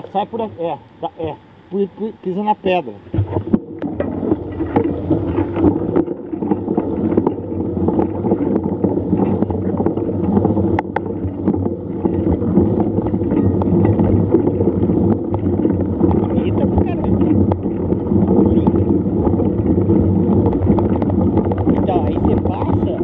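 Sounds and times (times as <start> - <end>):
small clicks and knocks: 3.1 - 23.0.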